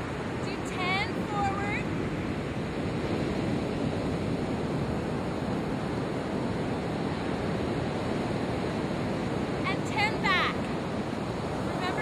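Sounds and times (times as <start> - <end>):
ocean surf breaking on beach: 0.0 - 12.0
wind on microphone: 0.0 - 12.0.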